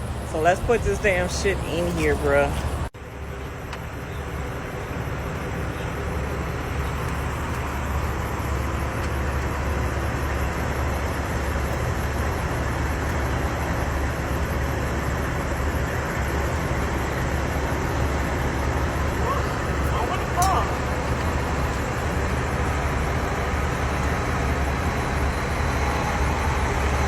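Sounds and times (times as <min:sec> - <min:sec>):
truck diesel engine idling: 0:00.0 - 0:27.0.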